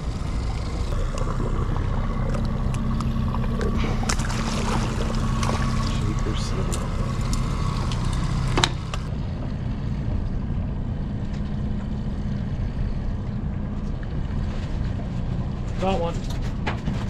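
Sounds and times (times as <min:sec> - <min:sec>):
faint steady hum: 0:00.0 - 0:16.4
outboard motor rumbling: 0:00.0 - 0:17.0.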